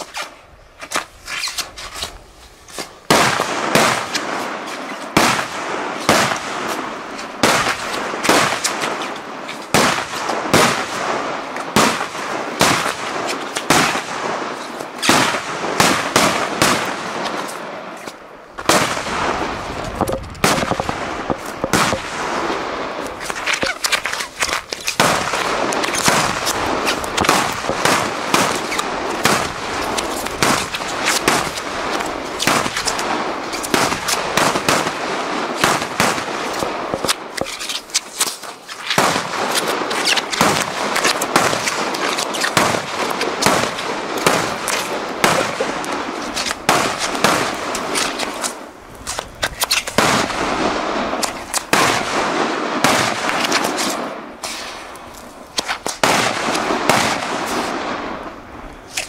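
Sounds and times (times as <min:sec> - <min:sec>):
firecrackers exploding rapidly: 0:03.0 - 0:17.8, 0:18.6 - 0:59.0.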